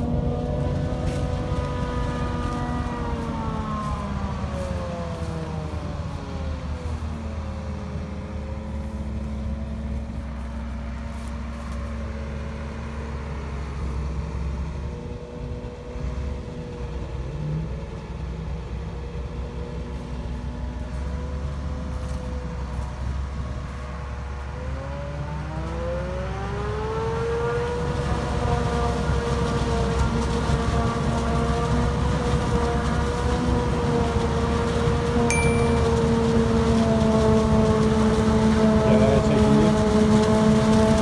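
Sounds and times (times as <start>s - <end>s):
harvester droning with whine: 0.0s - 41.0s.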